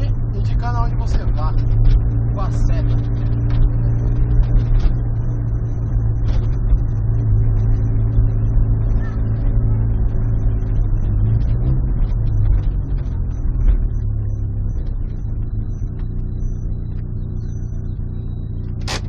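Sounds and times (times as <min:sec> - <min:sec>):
loud car exhaust droning: 0:00.0 - 0:19.0.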